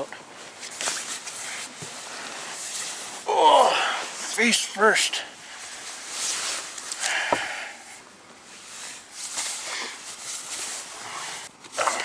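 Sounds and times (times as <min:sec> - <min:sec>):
sleeping bags rustling: 0:00.0 - 0:07.7, 0:08.4 - 0:12.0.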